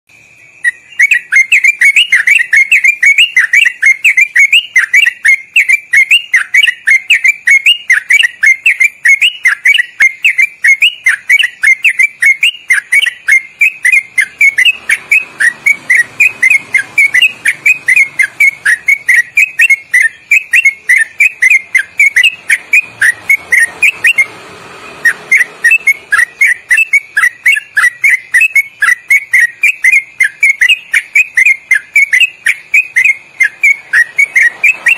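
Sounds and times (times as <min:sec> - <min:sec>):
bird singing whistled notes: 0:00.1 - 0:34.9.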